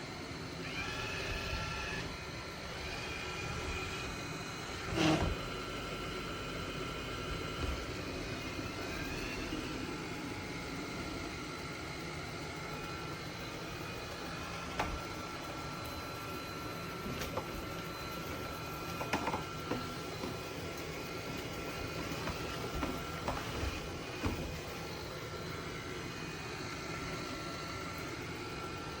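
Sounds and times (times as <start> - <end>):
robot vacuum fan hum: 0.0 - 29.0.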